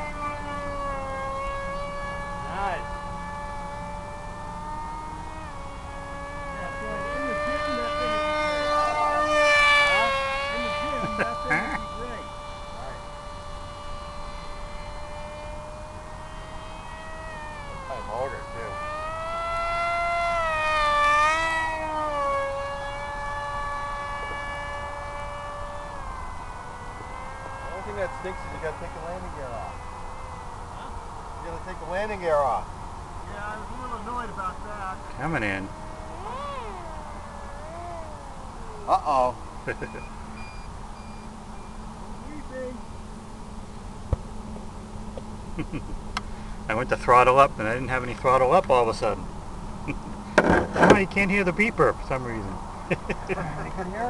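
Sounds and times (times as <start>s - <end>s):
electric motor and propeller whining: 0.0s - 54.0s.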